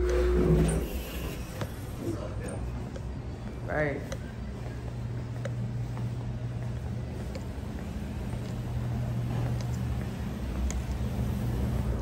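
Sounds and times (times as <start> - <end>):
elevator car humming: 0.0 - 12.0.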